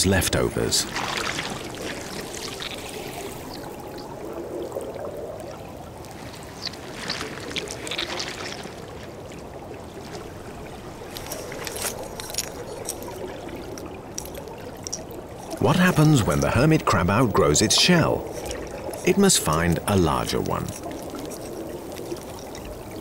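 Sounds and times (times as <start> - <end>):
faint gurgling: 0.1 - 23.0
underwater wash of water: 0.8 - 19.6.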